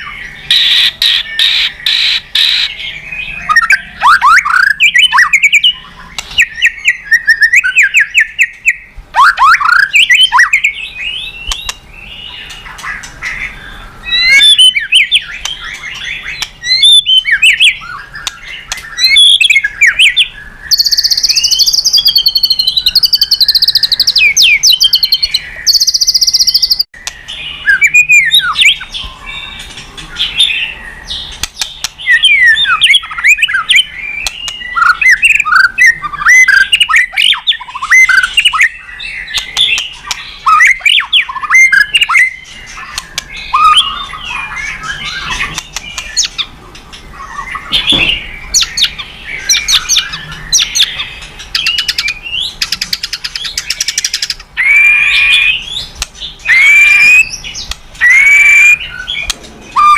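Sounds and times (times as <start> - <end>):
bird singing whistled phrases: 0.0 - 29.6, 30.2 - 46.5, 47.2 - 59.9.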